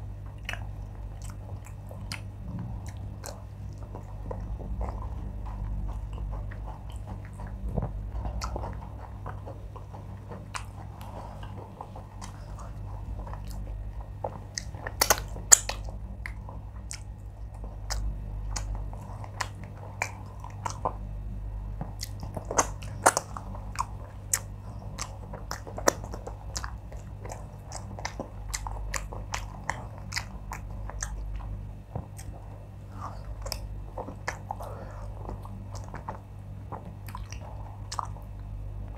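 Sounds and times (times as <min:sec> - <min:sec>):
chewing and wet mouth smacks: 0:00.2 - 0:21.1, 0:21.8 - 0:38.9.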